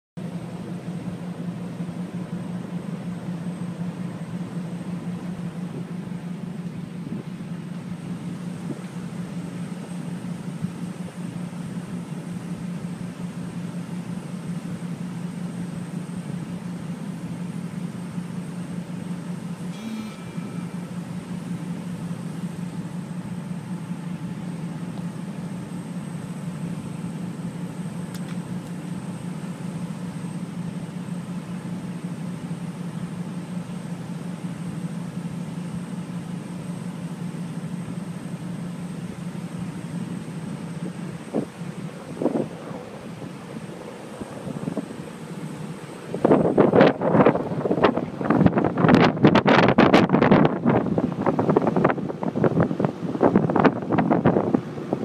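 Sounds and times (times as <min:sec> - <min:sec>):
vehicle engine idling: 0:00.2 - 0:55.0.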